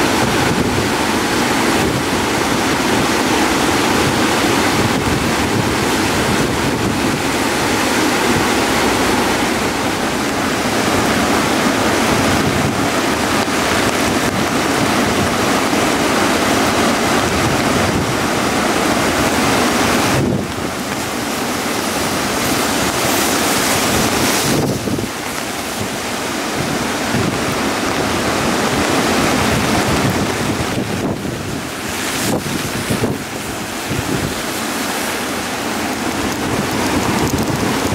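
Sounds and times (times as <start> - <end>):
river water rushing: 0.0 - 37.9.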